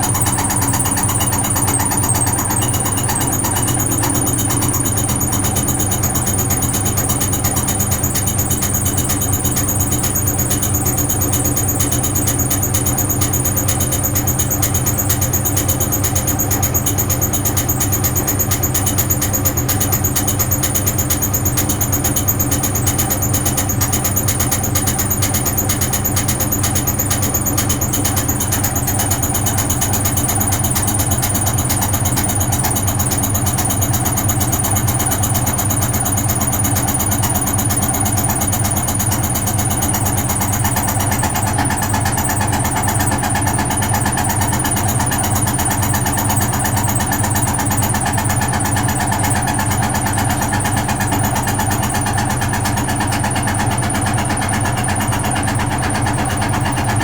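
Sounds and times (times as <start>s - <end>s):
washing machine drone: 0.0s - 57.0s
washing machine fast rattle: 0.0s - 57.0s.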